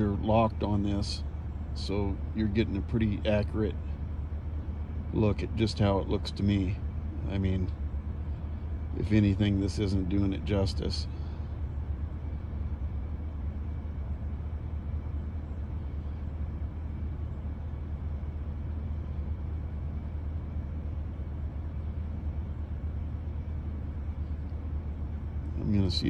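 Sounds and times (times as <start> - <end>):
car idling from inside cabin: 0.0 - 26.0.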